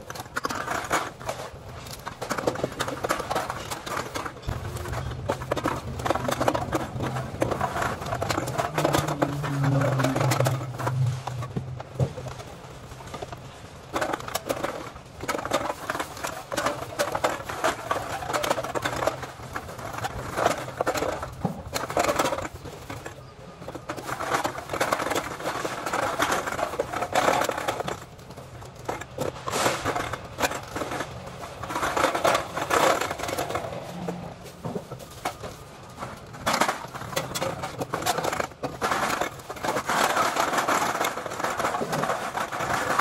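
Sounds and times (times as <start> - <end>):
plastic bags rustling: 0.0 - 43.0
recyclables clattering into bins: 0.0 - 43.0.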